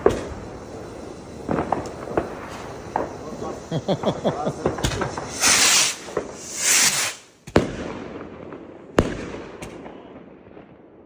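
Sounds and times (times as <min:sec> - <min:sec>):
fireworks rockets launching whoosh: 0:00.0 - 0:10.8
fireworks bursting bangs: 0:00.0 - 0:11.0
fireworks crackle: 0:00.0 - 0:11.0.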